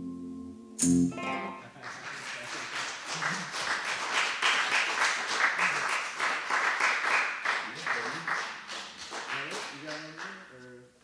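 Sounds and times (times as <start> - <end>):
audience clapping: 1.5 - 10.6.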